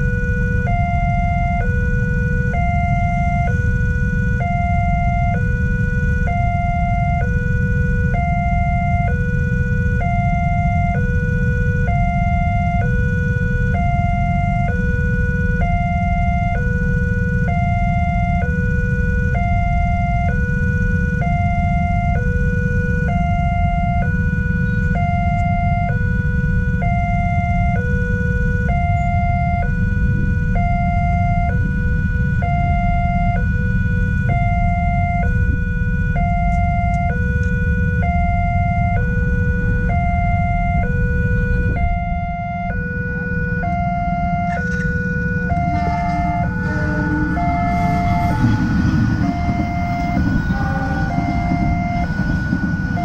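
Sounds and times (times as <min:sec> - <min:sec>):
steady low rumble: 0:00.0 - 0:53.0
two-tone warning siren: 0:00.0 - 0:53.0.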